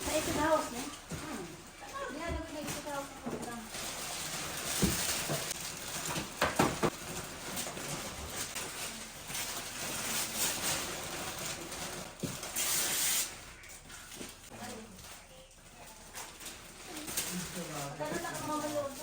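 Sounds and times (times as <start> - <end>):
wrapping paper rustling: 0.0 - 19.0.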